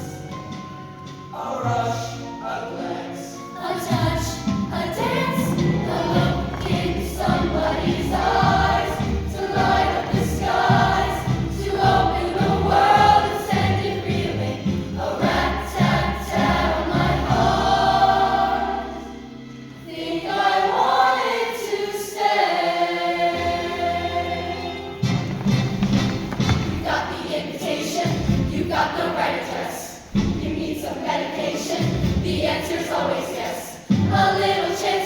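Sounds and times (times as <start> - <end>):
musical accompaniment: 0.0 - 35.0
choir singing: 1.3 - 25.2, 26.4 - 35.0.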